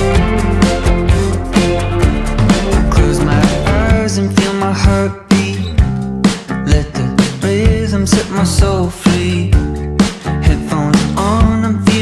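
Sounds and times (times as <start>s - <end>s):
upbeat music with steady beat: 0.0s - 12.0s.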